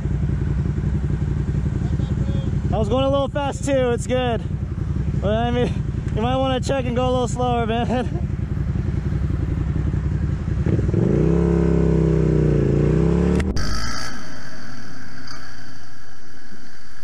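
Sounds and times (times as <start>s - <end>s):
motorcycle engine revving: 0.0s - 15.6s
rushing noise of riding: 0.0s - 17.0s.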